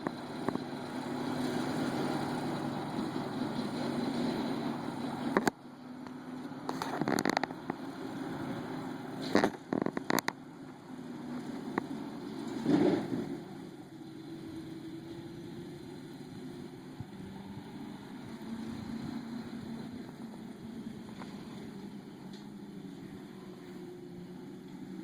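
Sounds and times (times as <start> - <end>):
pickup engine running: 0.0 - 25.0.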